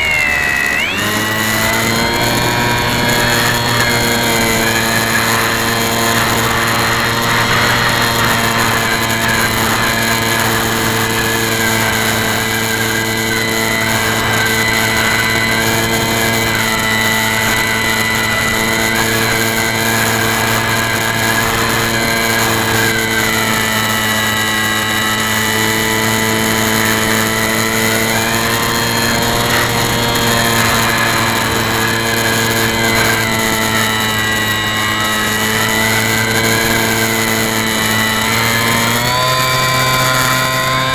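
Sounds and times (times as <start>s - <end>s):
model airplane motor whine: 0.0s - 40.9s.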